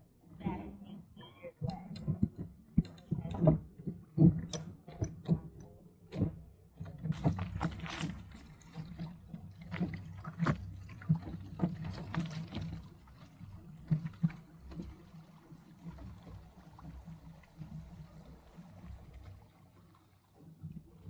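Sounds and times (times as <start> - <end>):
waves slapping against boat hull: 1.6 - 21.0.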